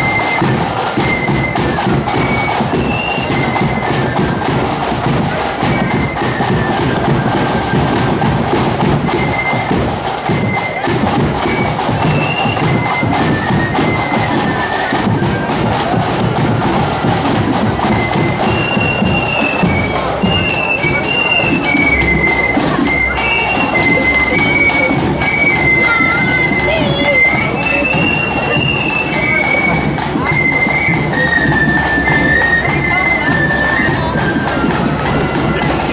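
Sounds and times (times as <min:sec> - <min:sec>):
rapid snare drumming: 0:00.0 - 0:35.9
shrill flutes playing melody: 0:00.0 - 0:35.9.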